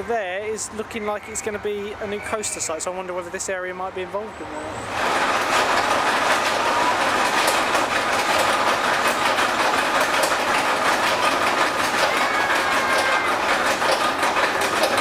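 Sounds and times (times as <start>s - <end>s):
roller coaster clattering on track: 0.0s - 15.0s.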